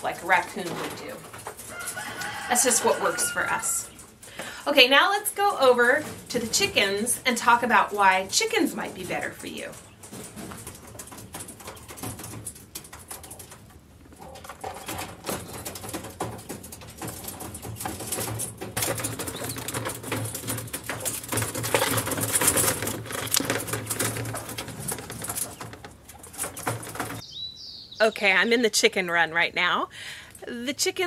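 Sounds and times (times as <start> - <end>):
scratching and fluttering: 0.0 - 4.6, 5.2 - 27.2.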